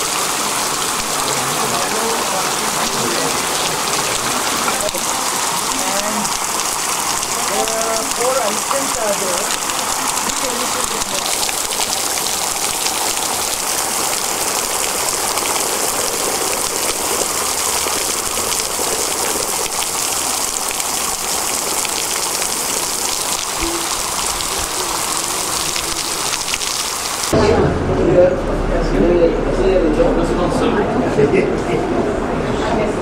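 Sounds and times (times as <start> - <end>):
fountain water falling into pool: 0.0 - 27.4.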